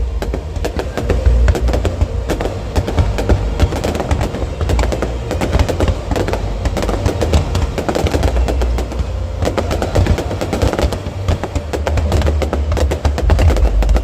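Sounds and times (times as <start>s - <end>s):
deep rumble of bursting shells: 0.0s - 14.0s
fireworks crackling and banging: 0.0s - 14.0s.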